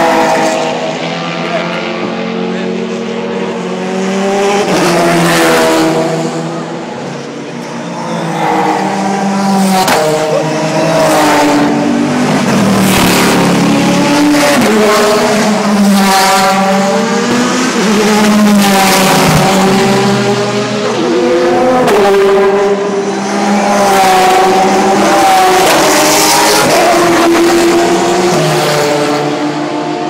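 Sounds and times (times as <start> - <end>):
race cars passing by: 0.0 - 30.0.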